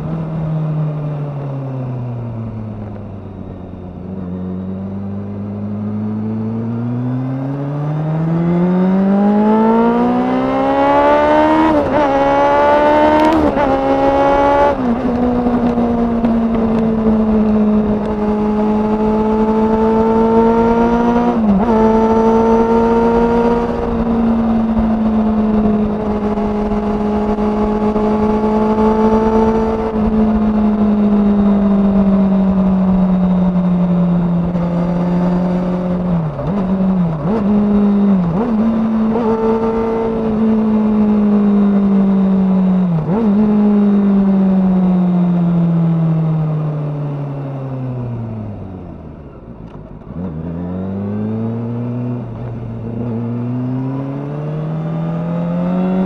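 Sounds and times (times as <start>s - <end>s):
motorcycle engine revving: 2.2s - 56.0s.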